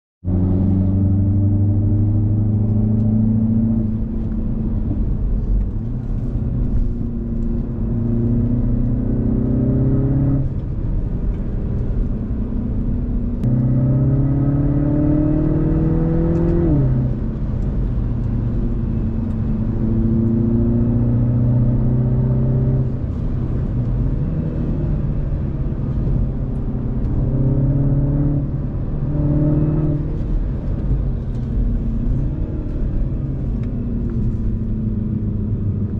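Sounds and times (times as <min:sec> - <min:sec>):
car engine accelerating through gears: 0:00.3 - 0:35.9.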